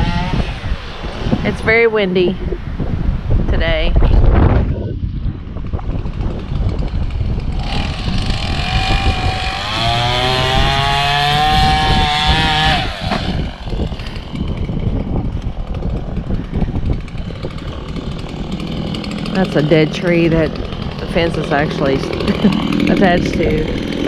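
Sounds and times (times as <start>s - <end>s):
engine whine: 0.0s - 24.0s
wind buffeting microphone: 0.0s - 24.0s.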